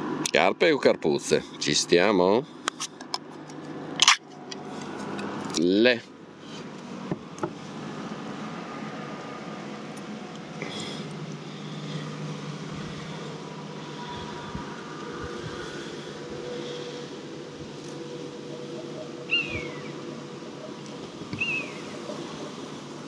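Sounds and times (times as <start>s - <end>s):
low mechanical hum: 0.0s - 23.0s
faint steady tones: 0.3s - 23.0s.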